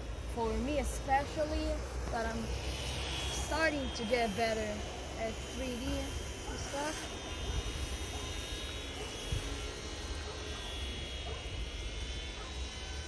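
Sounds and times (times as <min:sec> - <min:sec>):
electric motor and propeller whine: 0:00.0 - 0:13.0.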